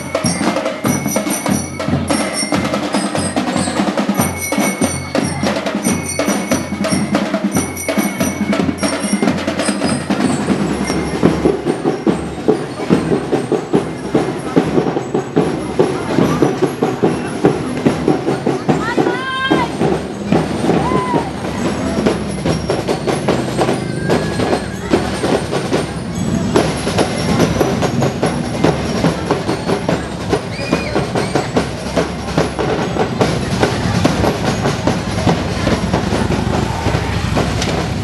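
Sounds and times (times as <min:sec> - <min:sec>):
busy background din: 0:00.0 - 0:38.0
loud music with drum beat: 0:00.0 - 0:38.0.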